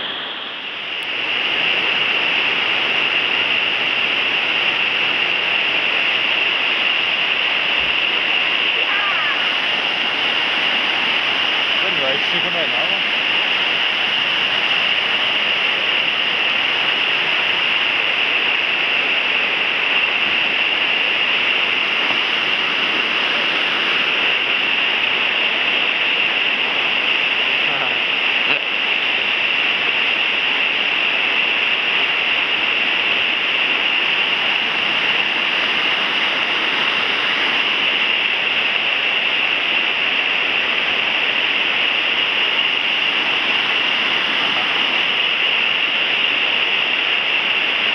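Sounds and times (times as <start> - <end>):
river water pouring over a weir: 0.0 - 47.9.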